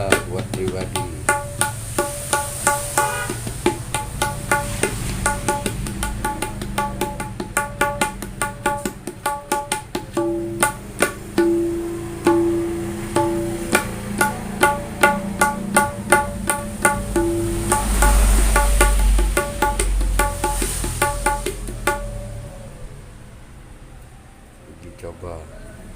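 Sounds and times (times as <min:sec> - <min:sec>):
hand drum fast crisp strokes: 0:00.0 - 0:22.4.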